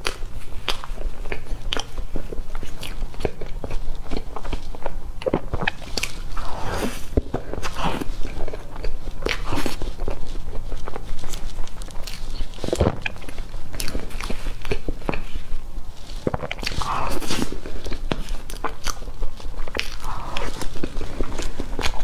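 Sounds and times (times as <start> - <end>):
wet chewing and lip-smacking: 0.0 - 22.0.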